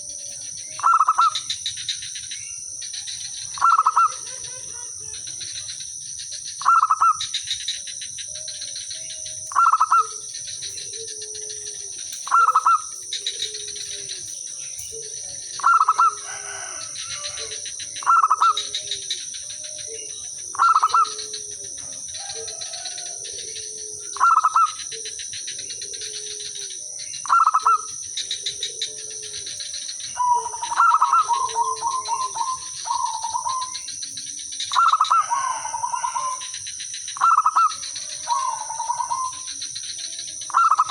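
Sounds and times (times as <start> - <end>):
dove cooing: 0.0 - 40.9
fainter lower dove calls: 0.0 - 40.9.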